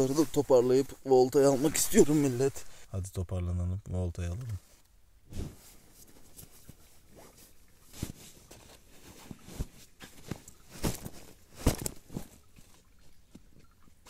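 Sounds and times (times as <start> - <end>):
rustling fabric: 0.0 - 2.9, 4.5 - 14.0.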